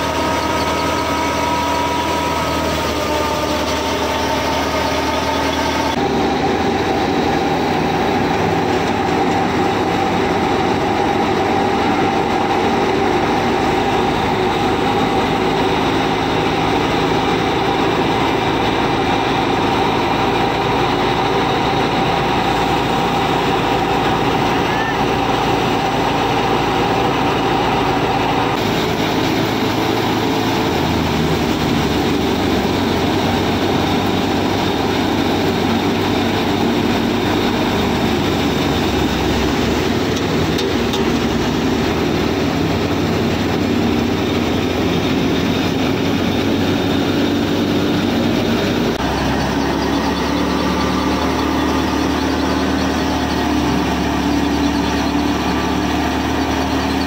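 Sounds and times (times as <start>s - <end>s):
model thresher mechanical hum: 0.0s - 57.0s.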